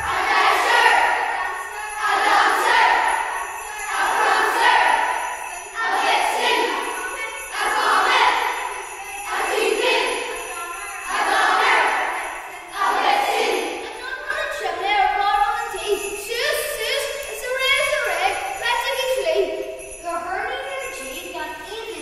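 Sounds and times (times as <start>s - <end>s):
jingle bells shaken: 0.0s - 22.0s.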